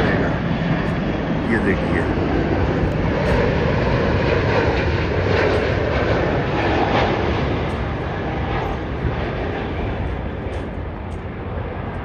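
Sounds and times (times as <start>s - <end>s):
jet airliner roaring overhead: 0.0s - 12.0s.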